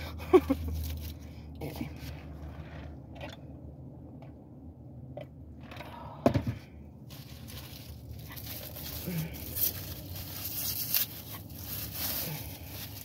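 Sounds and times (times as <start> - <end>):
low steady car cabin hum: 0.0 - 13.0.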